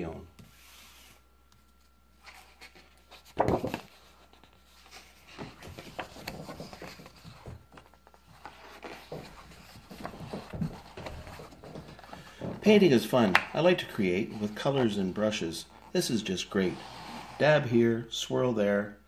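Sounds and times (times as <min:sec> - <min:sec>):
book pages turning: 0:00.4 - 0:17.4.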